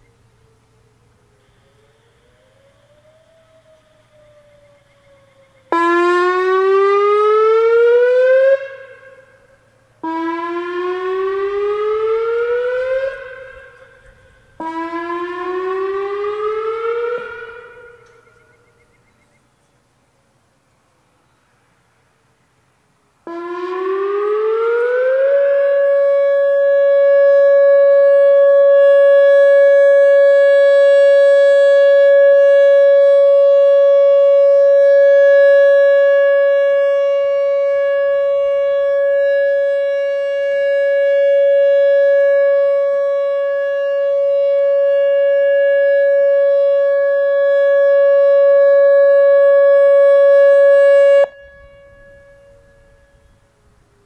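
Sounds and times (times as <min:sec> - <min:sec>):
warning siren steady tone: 0:00.0 - 0:19.3, 0:22.9 - 0:54.0.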